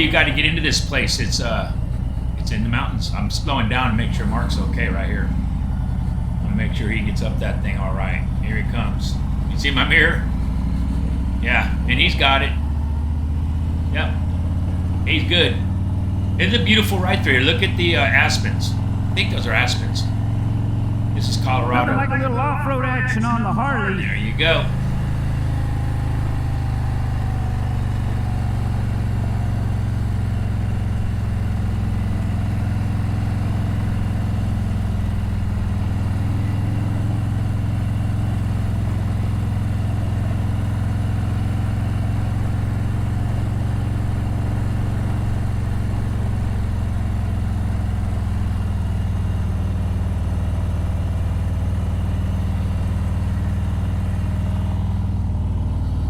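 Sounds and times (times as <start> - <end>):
motorcycle engine running low: 0.0 - 56.0.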